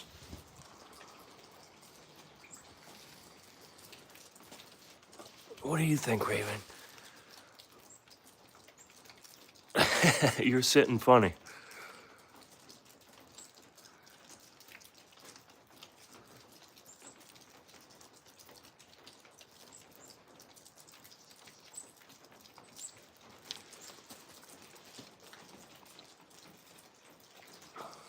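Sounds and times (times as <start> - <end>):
freezing rain pattering on ice: 0.0 - 28.0.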